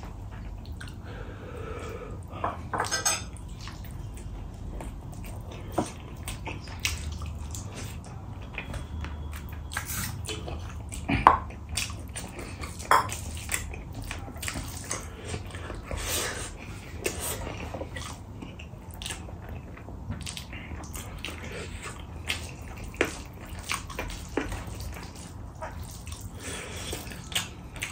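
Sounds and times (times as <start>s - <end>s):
wet chewing and lip smacking: 3.3s - 27.9s.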